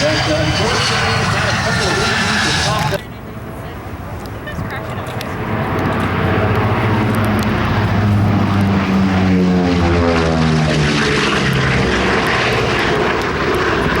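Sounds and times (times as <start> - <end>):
propeller aircraft flying past: 0.0 - 14.0.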